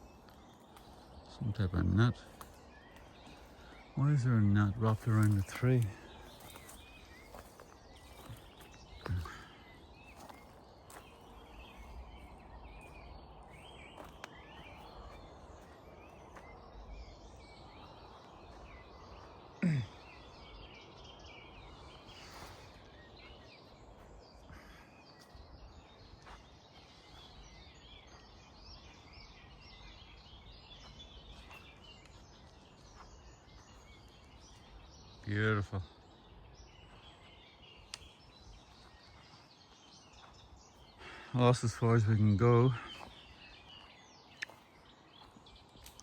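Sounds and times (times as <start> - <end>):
woodland birdsong: 0.0 - 46.0.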